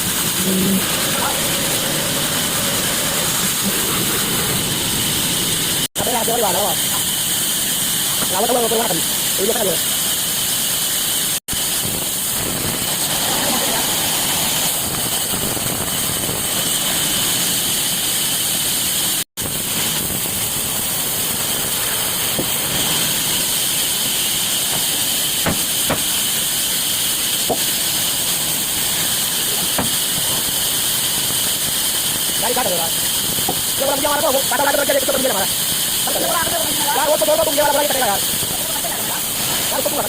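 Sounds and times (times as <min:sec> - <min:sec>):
loud hissing with high whine: 0:00.0 - 0:40.0.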